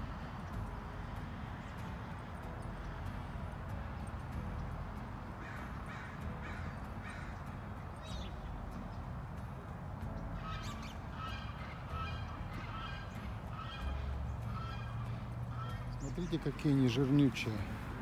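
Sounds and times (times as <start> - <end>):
geese honking: 0.0 - 4.0, 5.3 - 8.4, 10.0 - 17.8
steady low rumble: 0.0 - 16.6.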